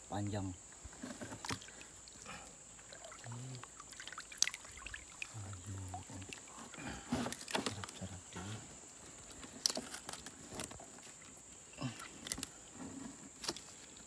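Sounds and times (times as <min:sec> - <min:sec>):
faint insect whine: 0:00.0 - 0:14.0.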